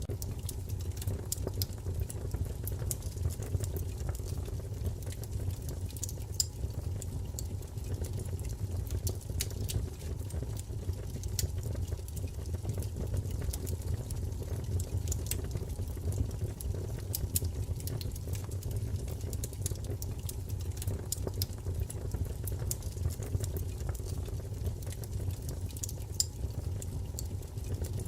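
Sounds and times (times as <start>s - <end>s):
burning logs rumbling: 0.0s - 28.0s
wood fire crackling: 0.0s - 28.0s.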